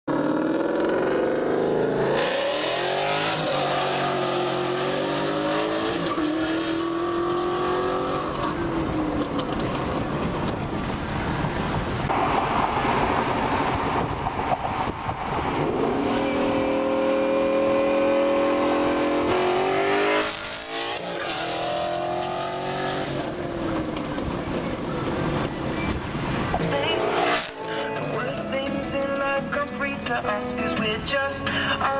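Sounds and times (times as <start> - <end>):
car engine accelerating: 0.1 - 27.8
road and wind rush: 0.1 - 31.9.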